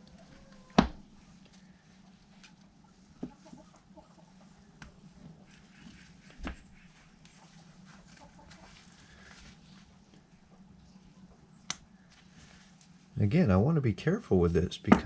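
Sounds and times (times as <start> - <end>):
chickens clucking faintly: 0.0 - 12.2
low steady hum: 0.0 - 15.0.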